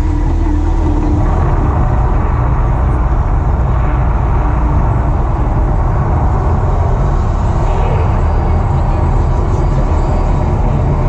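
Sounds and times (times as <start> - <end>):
deep rumbling: 0.0 - 11.0.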